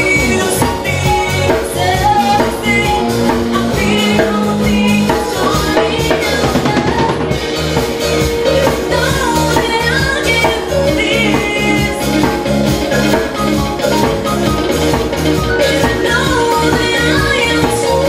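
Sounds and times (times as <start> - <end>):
person singing: 0.0 - 14.6, 15.2 - 18.0
bass and melodic instruments: 0.0 - 18.0
drum kit beat: 0.0 - 18.0.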